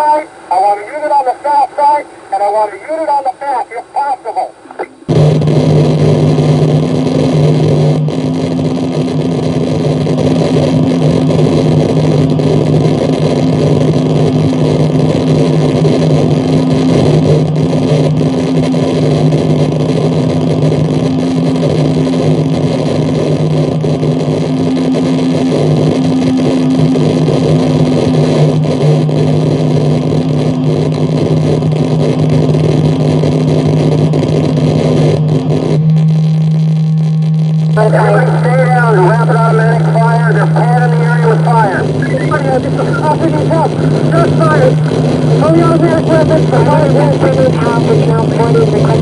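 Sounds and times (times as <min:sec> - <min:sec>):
distorted electronic static roar: 0:00.0 - 0:49.0
steady low drone: 0:04.4 - 0:49.0.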